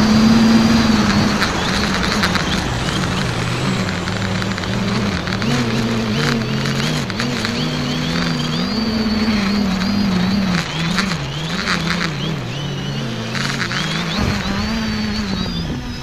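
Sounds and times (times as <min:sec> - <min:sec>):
drone propellers droning: 0:00.0 - 0:16.0
high motor whine: 0:00.0 - 0:16.0.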